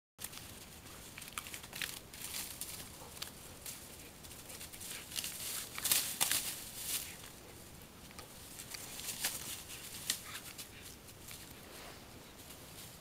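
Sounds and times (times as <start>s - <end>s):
dry leaves crunching underfoot: 0.2s - 7.4s, 8.3s - 11.8s.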